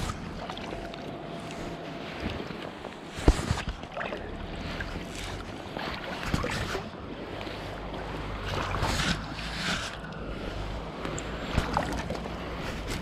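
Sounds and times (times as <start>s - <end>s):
river current rushing and lapping: 0.0s - 13.0s.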